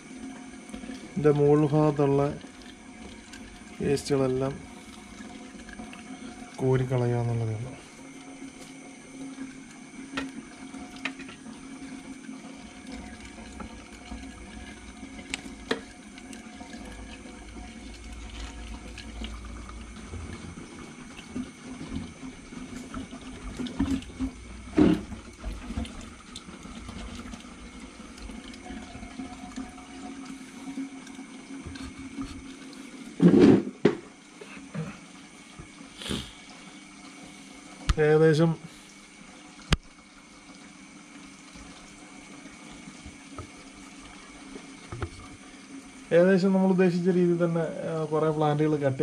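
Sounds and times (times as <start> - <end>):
water stirring and splashing: 0.0 - 38.1, 38.9 - 46.6
steady hum: 0.0 - 49.0.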